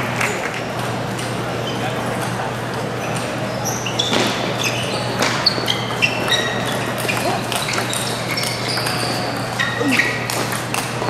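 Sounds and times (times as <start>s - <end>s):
shoes squeaking on floor: 1.6s - 11.0s.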